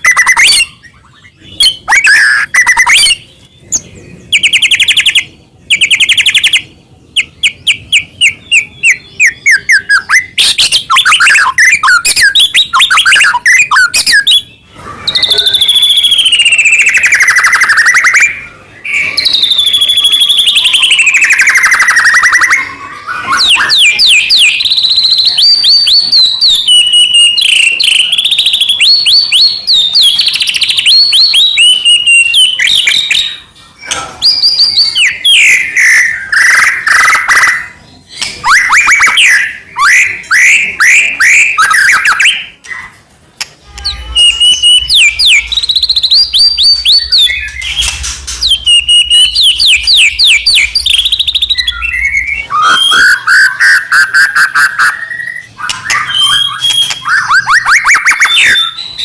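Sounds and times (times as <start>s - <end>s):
songbird singing loudly: 0.0s - 33.4s, 43.8s - 59.0s.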